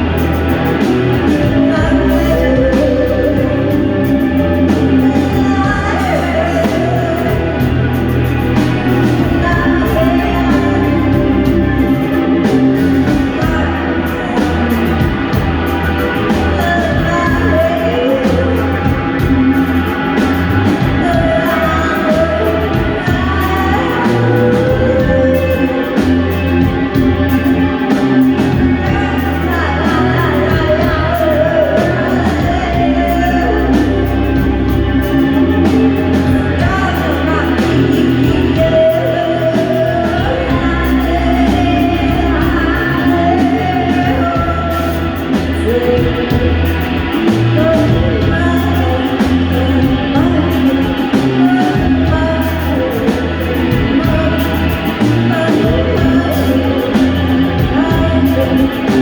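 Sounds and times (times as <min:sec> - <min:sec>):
live band playing: 0:00.0 - 0:59.0
person singing: 0:00.0 - 0:59.0.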